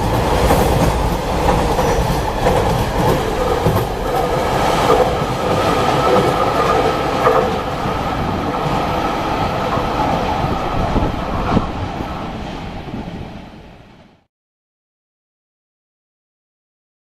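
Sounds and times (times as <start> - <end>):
freight train rolling past: 0.0 - 14.3.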